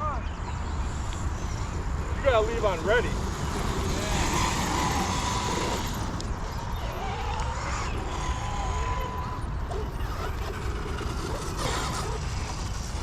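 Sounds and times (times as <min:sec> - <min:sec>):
faint voices: 0:00.0 - 0:13.0
wind rumbling on microphone: 0:00.0 - 0:13.0.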